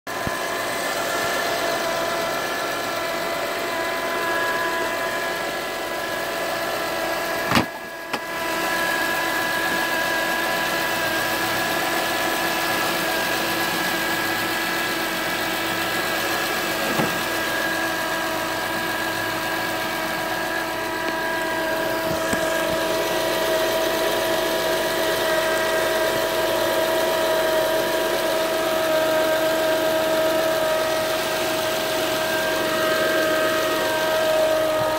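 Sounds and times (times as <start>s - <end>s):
car engine running with whine: 0.1s - 34.9s.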